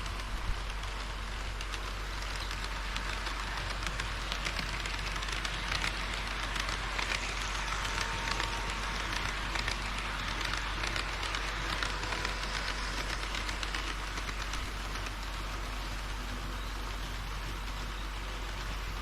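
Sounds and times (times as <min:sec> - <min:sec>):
model train wheels rattling on rails: 0:00.0 - 0:19.0.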